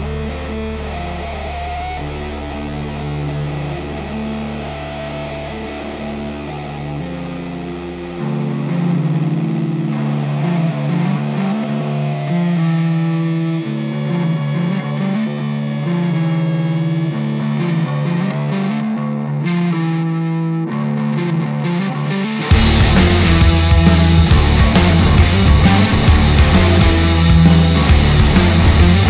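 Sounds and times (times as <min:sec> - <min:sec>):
rock music with distorted guitar: 0:00.0 - 0:29.0.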